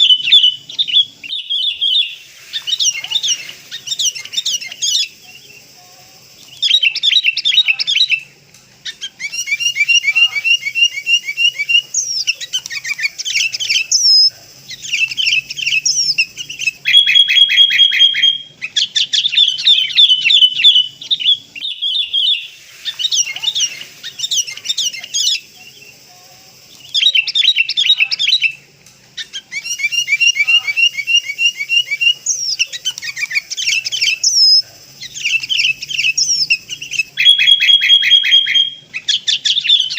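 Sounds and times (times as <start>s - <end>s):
bird chirps and trills: 0.0s - 28.6s, 29.2s - 39.9s.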